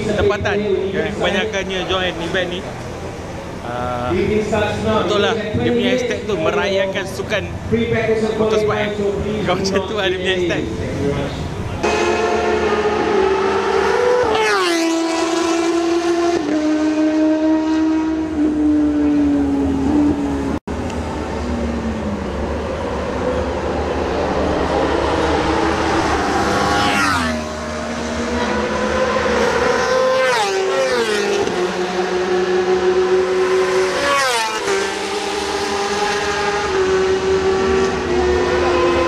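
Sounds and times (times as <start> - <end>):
racing engines passing at high revs: 0.0 - 39.0.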